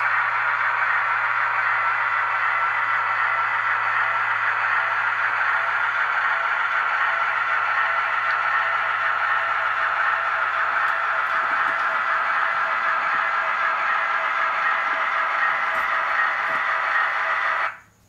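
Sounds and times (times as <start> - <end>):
model trains whirring: 0.0 - 18.0.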